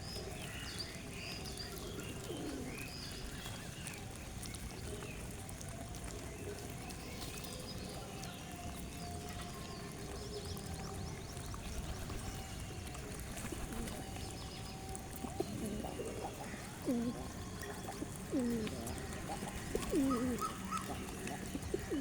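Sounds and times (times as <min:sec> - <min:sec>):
birds chirping: 0:00.0 - 0:22.0
low bird coo: 0:00.0 - 0:22.0.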